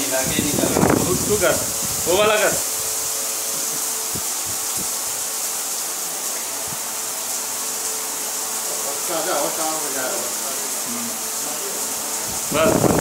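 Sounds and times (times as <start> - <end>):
shower jets spraying wall: 0.0 - 13.0.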